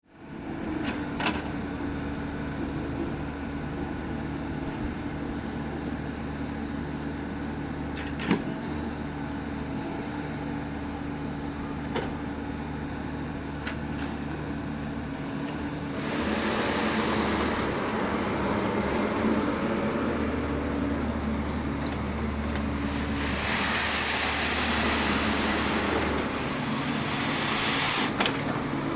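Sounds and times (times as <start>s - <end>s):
excavator diesel engine running: 0.2s - 28.9s.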